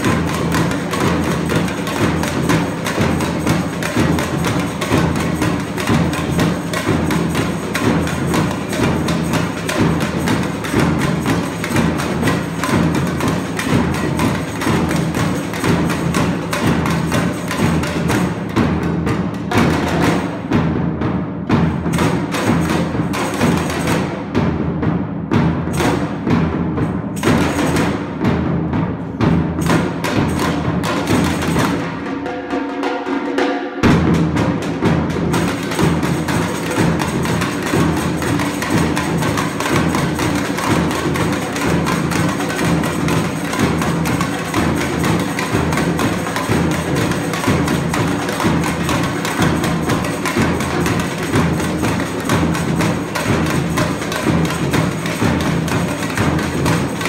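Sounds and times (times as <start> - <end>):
pitched percussion notes: 0.0 - 57.0
snare and hand-drum patterns: 0.0 - 57.0.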